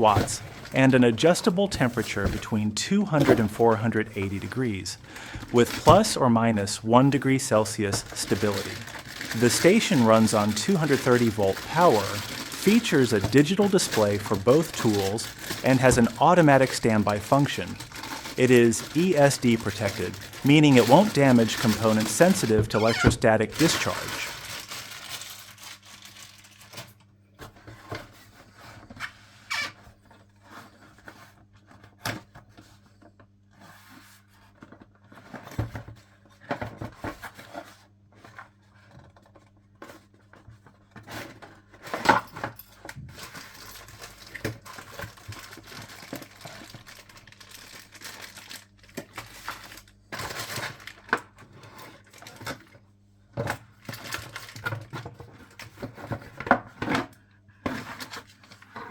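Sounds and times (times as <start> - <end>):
packaging crinkling and rustling: 0.0 - 27.0, 33.6 - 57.1, 57.7 - 58.9.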